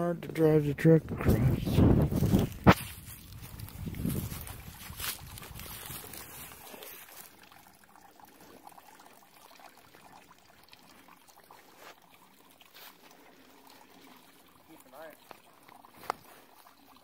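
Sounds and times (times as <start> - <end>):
water trickling from metal pipes: 0.0 - 17.0.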